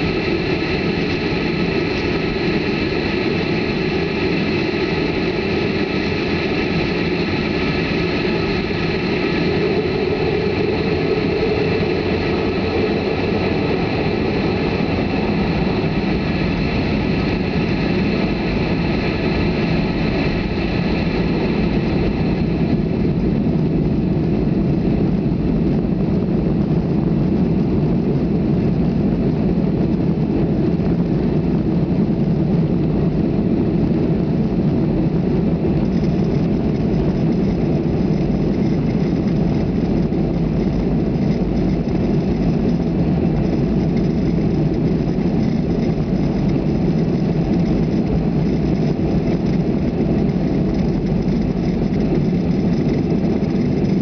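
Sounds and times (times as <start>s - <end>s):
airplane cabin engine rumble: 0.0s - 54.0s
faint high whine: 0.0s - 54.0s
rushing airflow: 0.0s - 54.0s.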